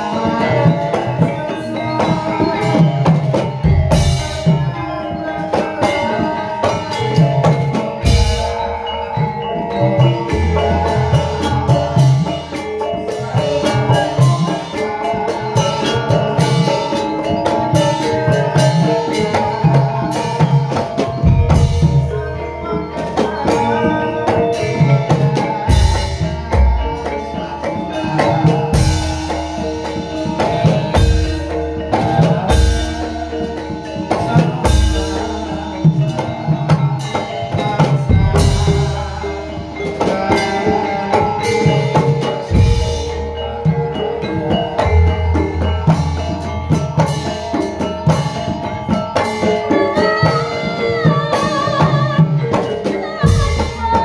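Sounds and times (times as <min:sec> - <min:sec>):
gongs and metallophones ringing: 0:00.0 - 0:54.0.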